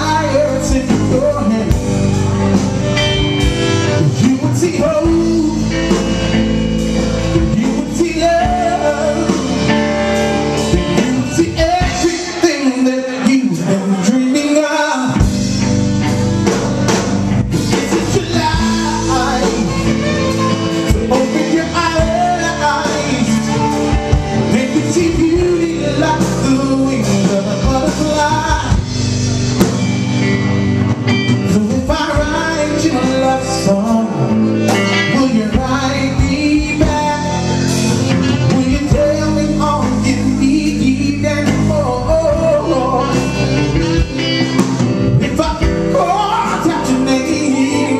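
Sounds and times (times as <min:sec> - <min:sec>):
person singing: 0:00.0 - 0:15.3, 0:17.0 - 0:29.6, 0:31.1 - 0:47.9
rock and roll band playing: 0:00.0 - 0:47.9.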